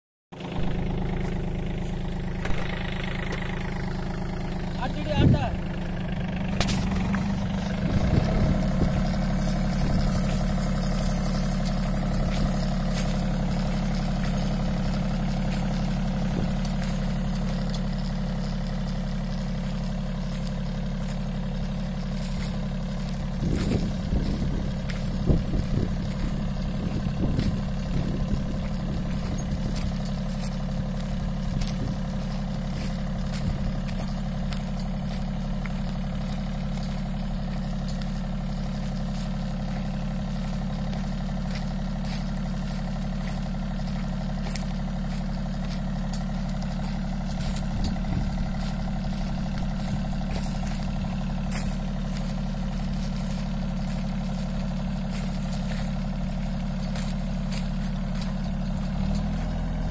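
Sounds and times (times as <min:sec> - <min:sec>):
tractor diesel engine running: 0:00.3 - 0:59.9.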